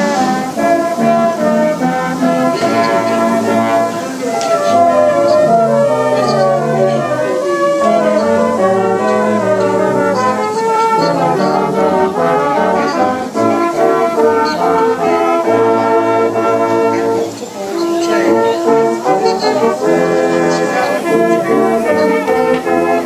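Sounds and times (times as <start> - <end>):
brass instruments playing chords: 0.0 - 23.0.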